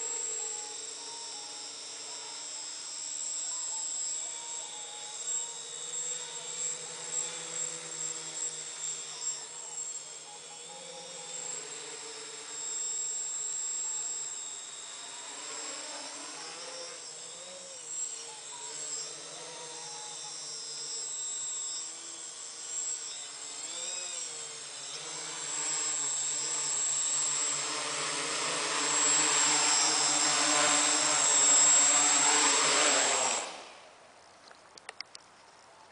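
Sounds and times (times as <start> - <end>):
drone propellers whirring: 0.0 - 34.3.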